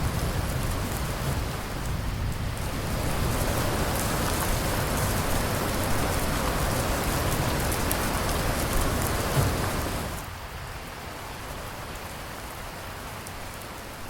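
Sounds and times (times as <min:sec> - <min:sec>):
heavy rain on a surface: 0:00.0 - 0:14.0.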